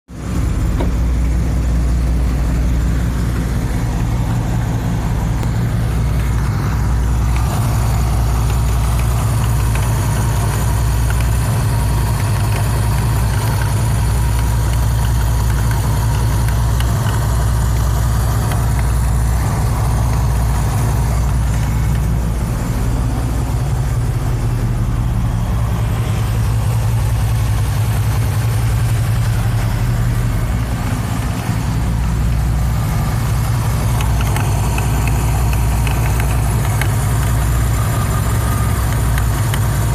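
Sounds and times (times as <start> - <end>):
car engine idling: 0.0 - 39.9
light ticking: 0.7 - 39.9.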